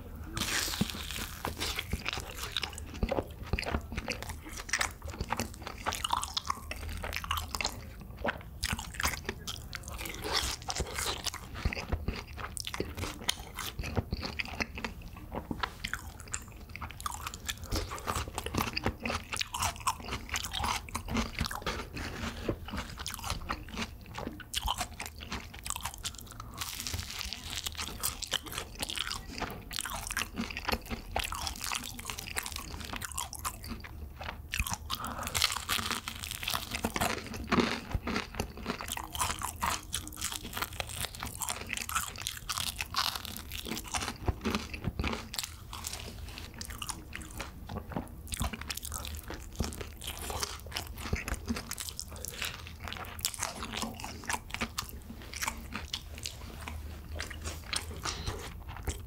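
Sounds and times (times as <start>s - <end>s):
crunching fried chicken: 0.1s - 59.0s.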